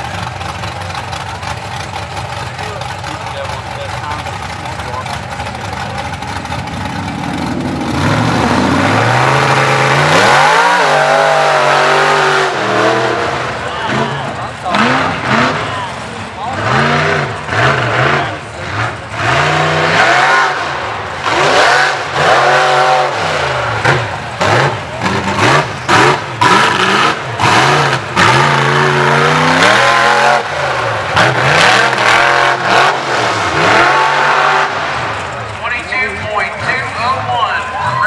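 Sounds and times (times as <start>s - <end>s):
truck engine revving hard: 0.0s - 38.0s.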